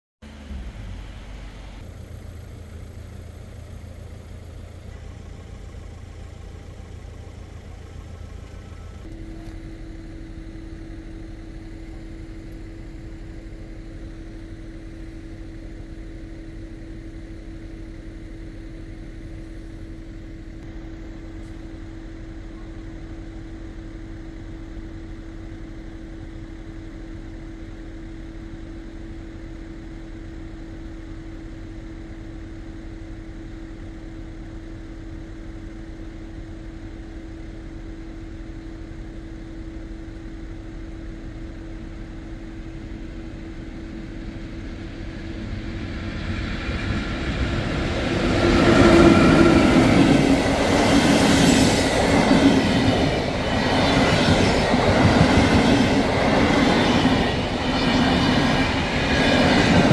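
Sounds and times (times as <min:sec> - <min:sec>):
car engine idling: 0:00.2 - 0:59.9
steady humming tone: 0:00.3 - 0:59.9.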